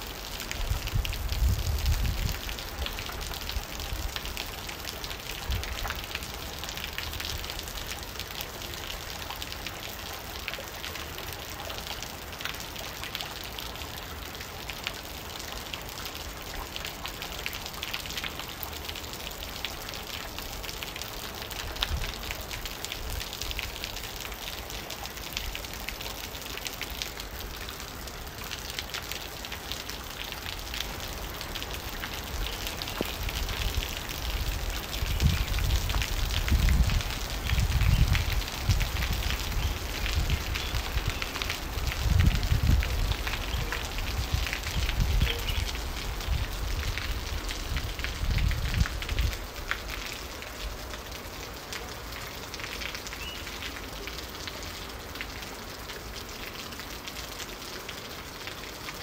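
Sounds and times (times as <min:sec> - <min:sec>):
heavy rain splashing: 0:00.0 - 0:59.0.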